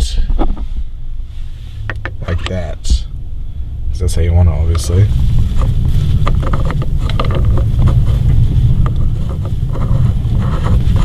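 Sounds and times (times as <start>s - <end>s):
car engine running: 1.1s - 11.0s.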